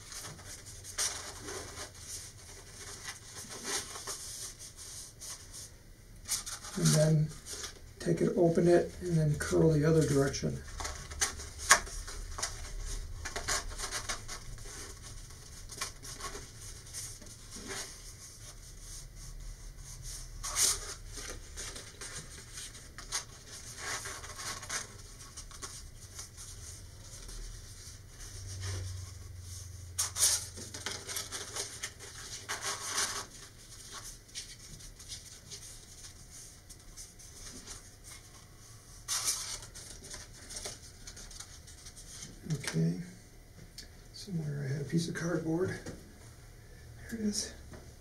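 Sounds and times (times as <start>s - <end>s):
paper rustling: 0.0s - 5.7s, 9.3s - 42.8s.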